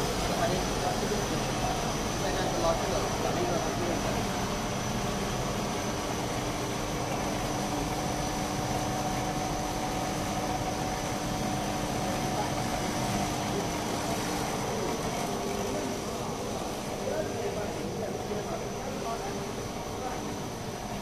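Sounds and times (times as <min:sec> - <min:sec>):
machine hum and air rush: 0:00.0 - 0:21.0.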